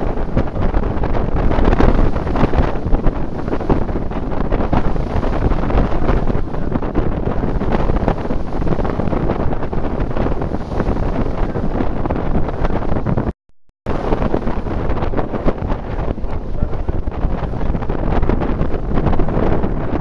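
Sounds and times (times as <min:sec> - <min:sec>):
wind buffeting microphone: 0:00.0 - 0:13.3, 0:13.9 - 0:20.0.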